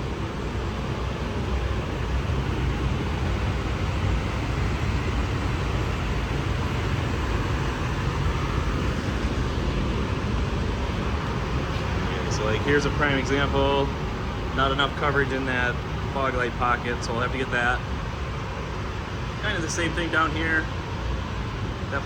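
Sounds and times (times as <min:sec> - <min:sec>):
ventilation air rushing: 0:00.0 - 0:22.0.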